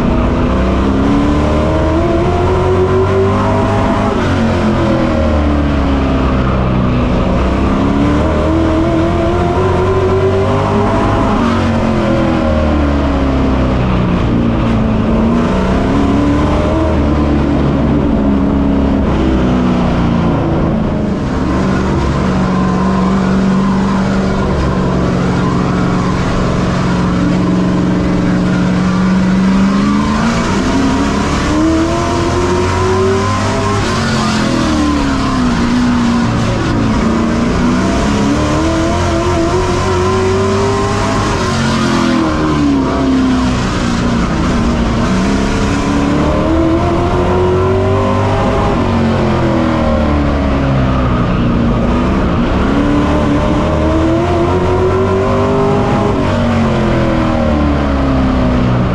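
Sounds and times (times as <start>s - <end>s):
race truck engine revving: 0.0s - 58.9s.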